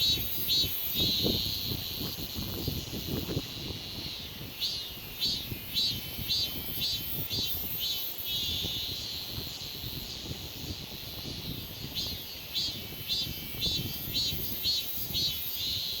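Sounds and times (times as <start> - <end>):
cicada buzzing: 0.0 - 16.0.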